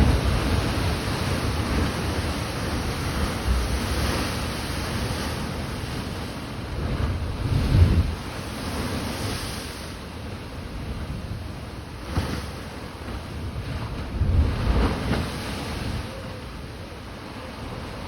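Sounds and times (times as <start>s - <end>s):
heavy waves breaking: 0.0s - 18.0s
surf washing: 0.0s - 18.0s.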